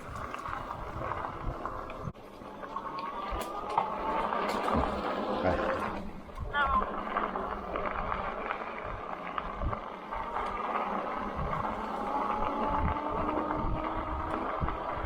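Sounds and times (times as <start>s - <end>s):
bike tyre rolling noise: 0.0s - 15.0s
faint rising whine: 0.0s - 15.0s
wind buffeting microphone: 0.0s - 15.0s.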